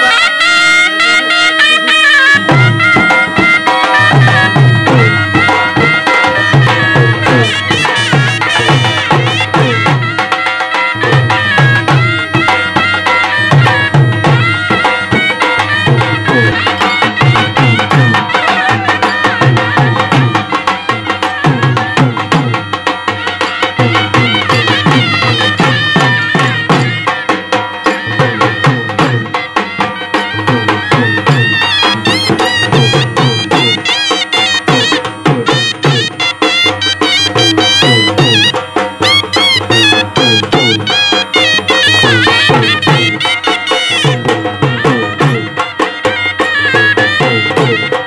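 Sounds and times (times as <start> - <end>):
bagpipe drone: 0.0 - 48.0
reedy wind melody: 0.0 - 48.0.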